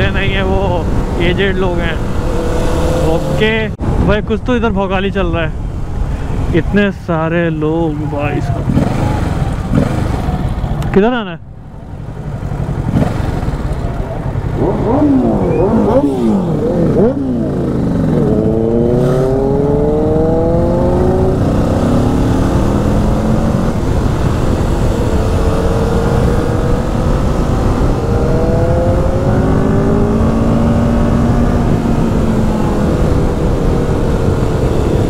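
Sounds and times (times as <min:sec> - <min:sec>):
motorcycle engine accelerating: 0:00.0 - 0:03.7, 0:08.5 - 0:11.0, 0:11.7 - 0:35.0
wind and road noise: 0:00.0 - 0:35.0.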